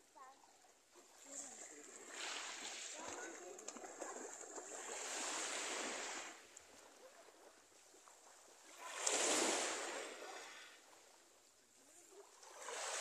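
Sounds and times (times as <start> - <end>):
small waves washing on shore: 0.7 - 13.0.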